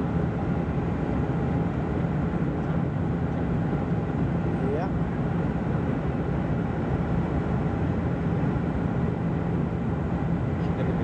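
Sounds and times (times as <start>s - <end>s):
turboprop engine drone in cabin: 0.0s - 11.0s.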